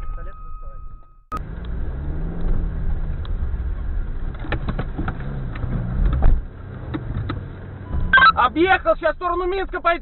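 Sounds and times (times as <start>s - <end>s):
car engine running: 1.3s - 10.0s.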